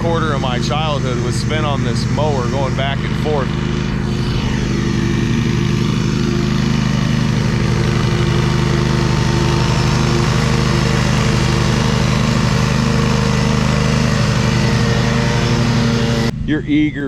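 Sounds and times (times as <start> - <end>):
riding lawn mower engine drone: 0.0 - 17.0.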